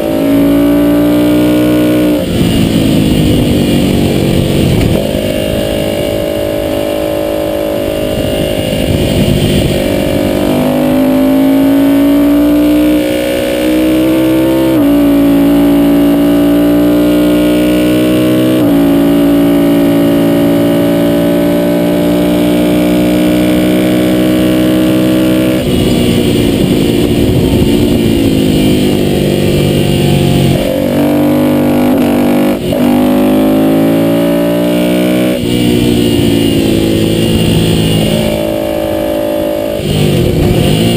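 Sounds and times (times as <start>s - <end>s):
wind noise: 0.0s - 16.9s, 23.5s - 40.9s
motorcycle engine running hard: 0.0s - 40.9s.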